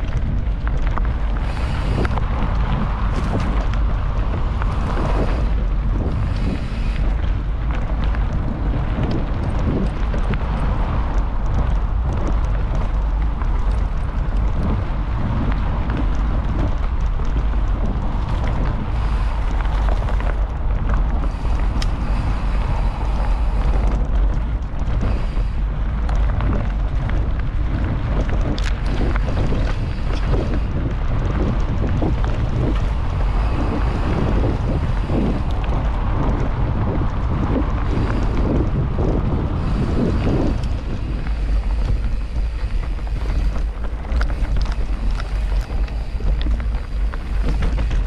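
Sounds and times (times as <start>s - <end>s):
bicycle tyre noise: 0.0s - 48.0s
bike rattles and clicks: 0.0s - 48.0s
wind rumble on microphone: 0.0s - 48.0s.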